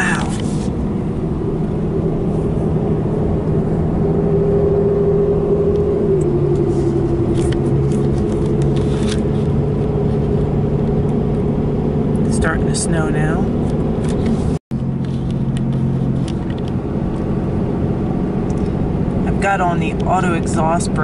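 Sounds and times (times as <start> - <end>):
engine hum in vehicle cab: 0.0 - 21.0
tyre and road noise: 0.0 - 21.0.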